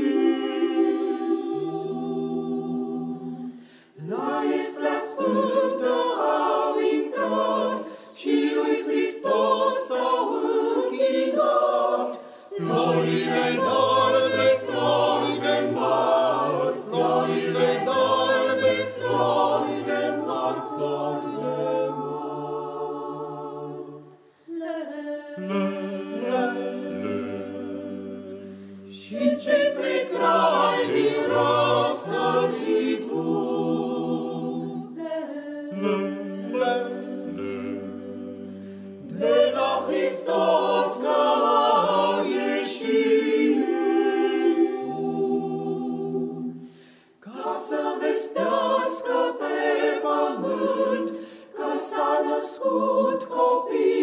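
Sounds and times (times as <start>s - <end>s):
mixed choir singing a cappella: 0.0s - 54.0s.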